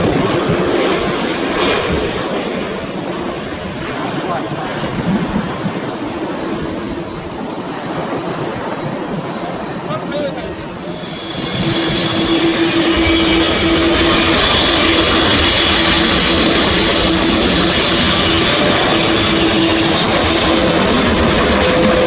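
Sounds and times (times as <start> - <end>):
jet aircraft passing low: 0.0 - 22.0.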